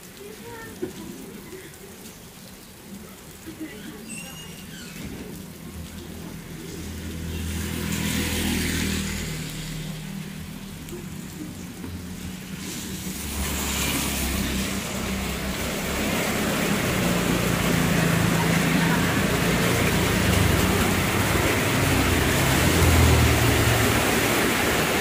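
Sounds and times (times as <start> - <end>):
tyre hiss on wet road: 3.0 - 25.0.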